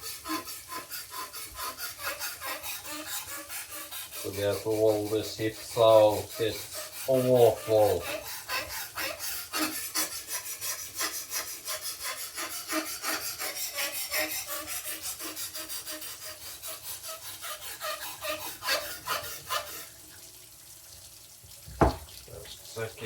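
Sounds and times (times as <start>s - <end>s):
knife scraping on sharpening stone: 0.0s - 19.9s.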